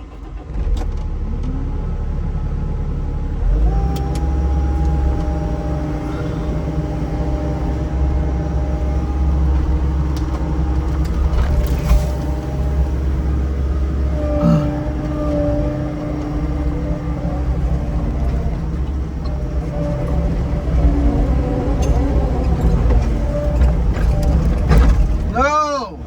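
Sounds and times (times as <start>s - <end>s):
large engine throttling up: 0.0s - 25.7s.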